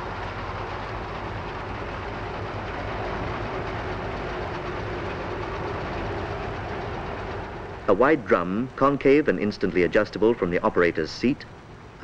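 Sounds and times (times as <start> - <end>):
combine harvester engine rumbling: 0.0 - 12.0.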